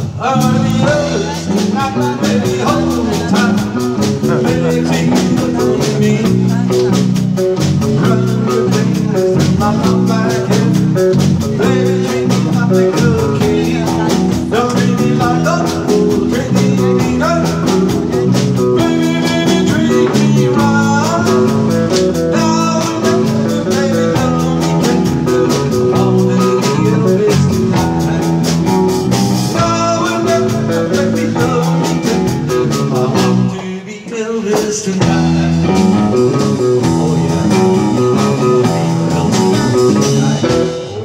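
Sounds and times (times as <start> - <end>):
steady drum beat: 0.0 - 33.6, 34.4 - 41.0
country band playing: 0.0 - 41.0.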